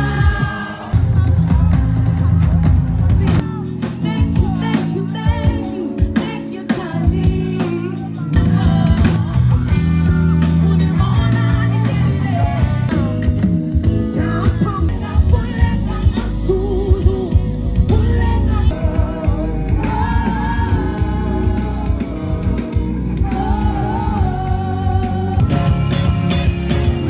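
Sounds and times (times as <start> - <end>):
live band with woman singing: 0.0 - 27.0.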